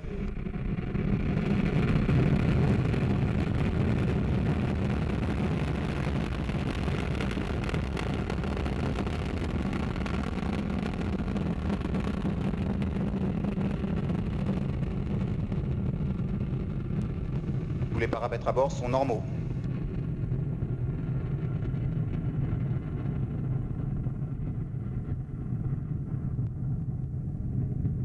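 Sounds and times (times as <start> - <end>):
rocket engine roaring: 0.0 - 28.0.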